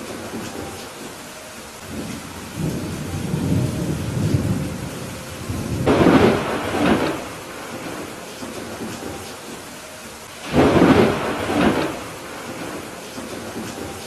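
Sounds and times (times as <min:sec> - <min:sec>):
steady rain: 0:00.0 - 0:14.0
thunder rumbling: 0:01.8 - 0:09.8, 0:10.4 - 0:14.0.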